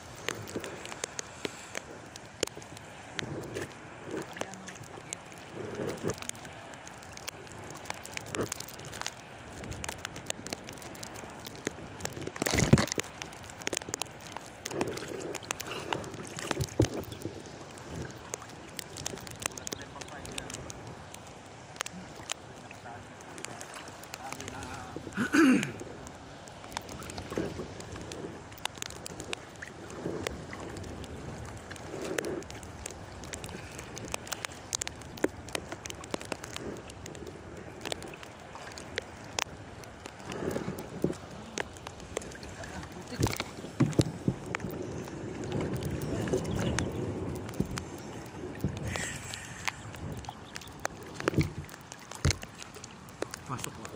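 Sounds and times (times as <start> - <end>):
water sloshing and lapping: 0.0 - 53.9
wind on microphone: 0.0 - 53.9
small clicks and knocks: 0.2 - 22.4, 26.4 - 44.8, 48.6 - 53.9.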